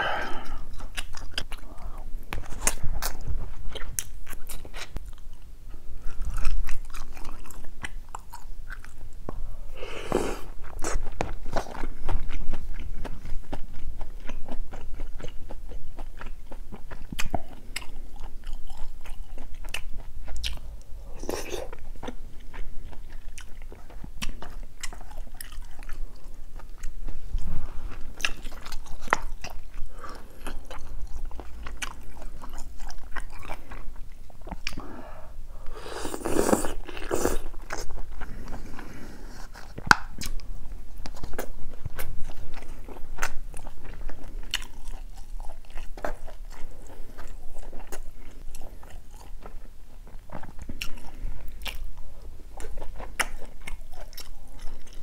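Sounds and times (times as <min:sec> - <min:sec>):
chewing and mouth smacking: 0:00.7 - 0:09.4, 0:10.6 - 0:34.9, 0:36.1 - 0:55.0.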